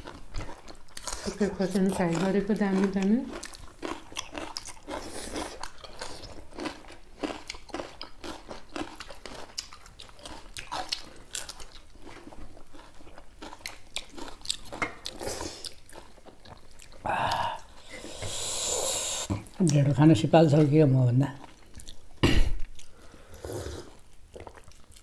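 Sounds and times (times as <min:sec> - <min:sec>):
crunchy chewing: 0:00.0 - 0:19.8, 0:21.3 - 0:25.0.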